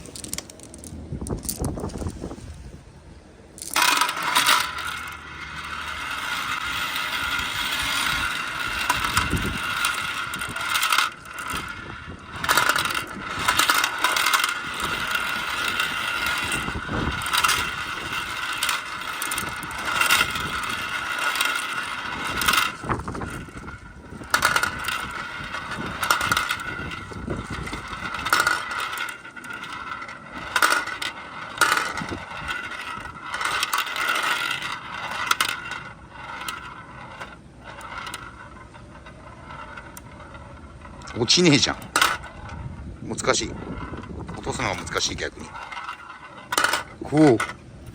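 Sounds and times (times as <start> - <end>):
marbles rolling and clattering: 0.0 - 2.5, 3.5 - 47.9.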